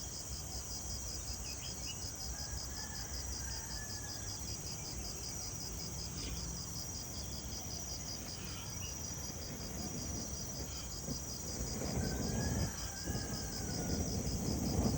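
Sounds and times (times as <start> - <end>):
insect chirping: 0.0 - 14.9.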